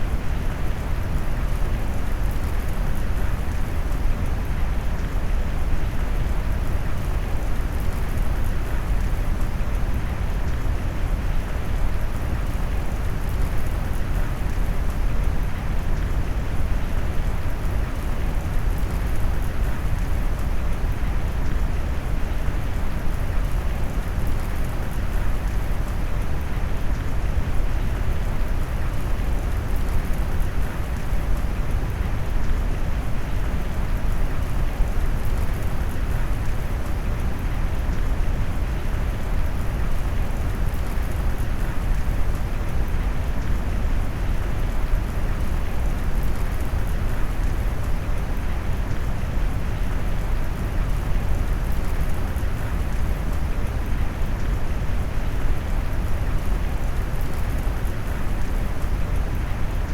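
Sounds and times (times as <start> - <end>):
deep rushing rain noise: 0.0 - 59.9.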